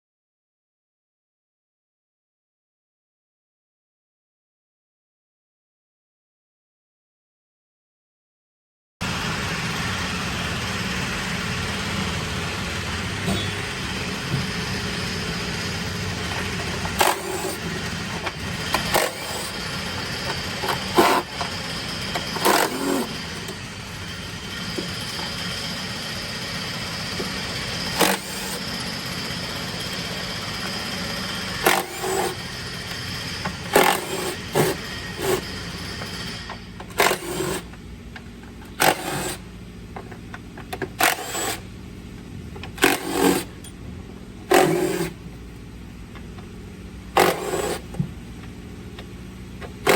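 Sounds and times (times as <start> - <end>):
diesel engine running: 9.0 - 49.9.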